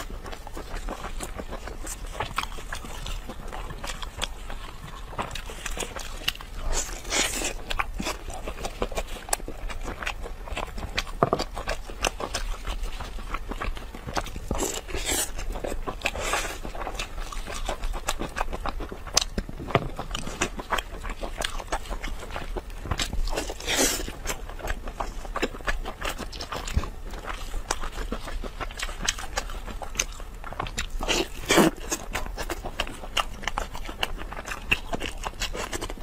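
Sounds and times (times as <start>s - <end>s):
person chewing ribs: 0.0s - 36.0s.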